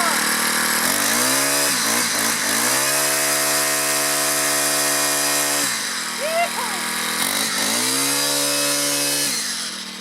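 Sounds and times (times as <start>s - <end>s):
string trimmer engine revving: 0.0s - 10.0s.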